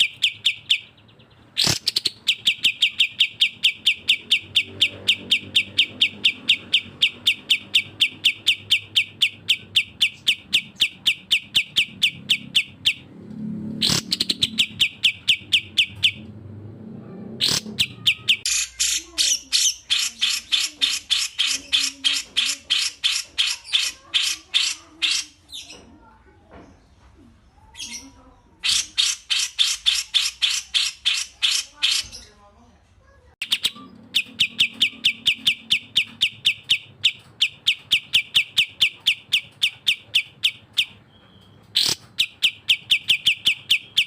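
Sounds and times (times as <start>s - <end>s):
birds chattering calls: 0.0s - 32.5s, 33.4s - 44.0s.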